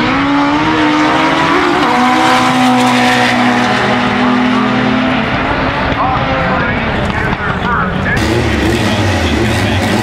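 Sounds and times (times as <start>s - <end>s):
car engine at full throttle: 0.0s - 10.0s.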